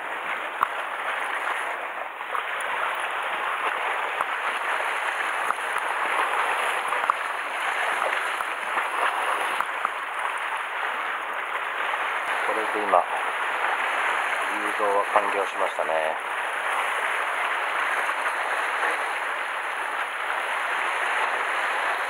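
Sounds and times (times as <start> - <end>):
sea water sloshing against rocks: 0.0 - 22.0
small splashes: 0.0 - 22.0.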